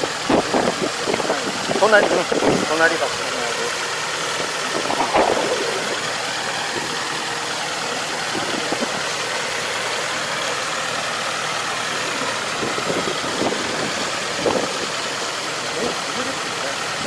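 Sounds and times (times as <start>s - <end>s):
farm machine engine running: 0.0s - 17.0s.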